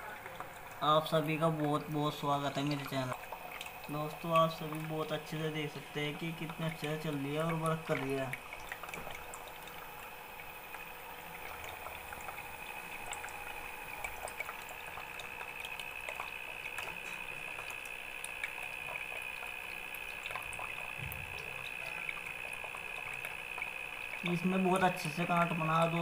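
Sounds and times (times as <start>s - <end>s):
pump motor whine: 0.0s - 26.0s
water trickling and bubbling: 0.0s - 26.0s.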